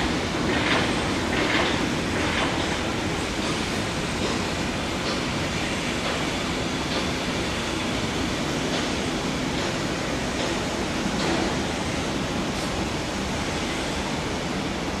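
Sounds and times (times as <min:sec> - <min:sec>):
electric locomotive moving slowly: 0:00.0 - 0:15.0.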